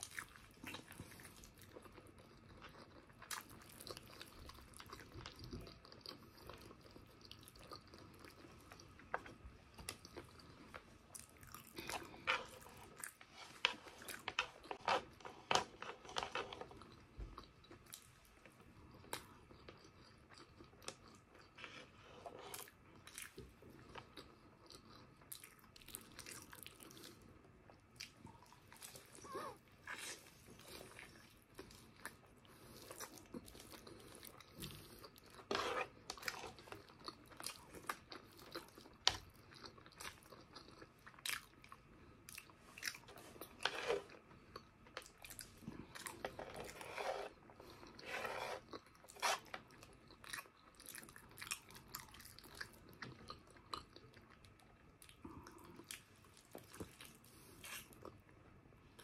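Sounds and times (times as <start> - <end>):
person chewing meat: 0.0 - 59.0.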